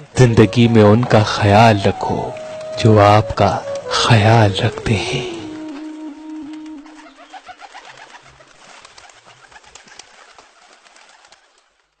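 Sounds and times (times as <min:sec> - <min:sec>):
birds chirping: 0:00.0 - 0:11.7.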